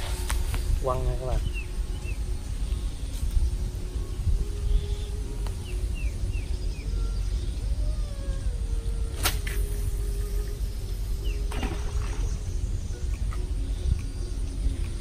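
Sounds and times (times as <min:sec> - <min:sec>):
constant low rumble: 0:00.0 - 0:15.0
faint wavering hum: 0:00.0 - 0:15.0.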